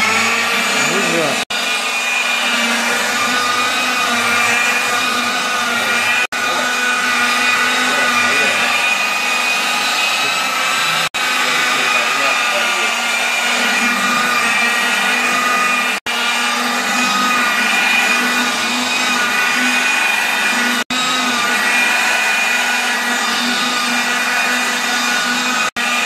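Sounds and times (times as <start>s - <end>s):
rotary polisher motor whine: 0.0s - 26.0s.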